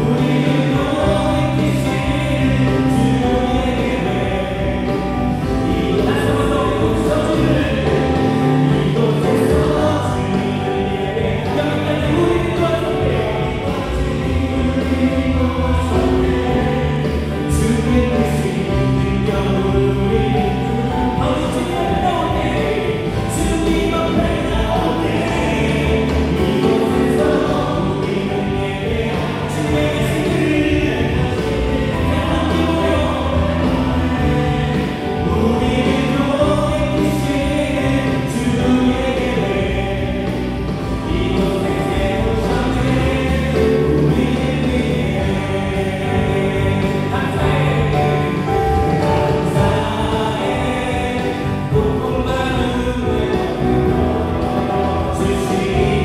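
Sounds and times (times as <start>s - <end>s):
drums: 0.0s - 56.0s
electric bass: 0.0s - 56.0s
keyboards: 0.0s - 56.0s
voices singing: 0.0s - 56.0s.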